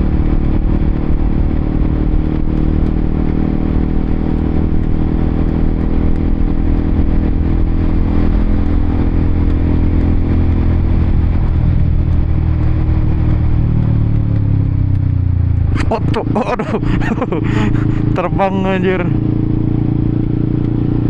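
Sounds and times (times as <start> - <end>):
motorcycle engine cruising: 0.0 - 21.0.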